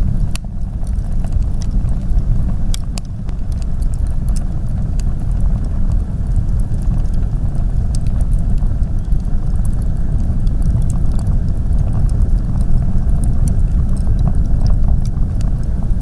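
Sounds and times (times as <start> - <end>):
blizzard wind rumble: 0.0 - 16.0
wood fire crackling: 0.0 - 16.0.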